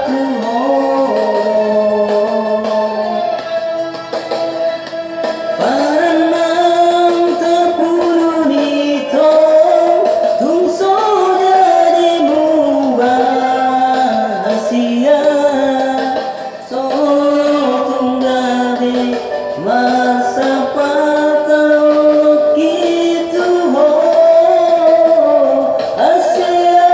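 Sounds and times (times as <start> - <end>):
instrumental backing: 0.0 - 26.9
sliding vocal melody: 0.0 - 26.9.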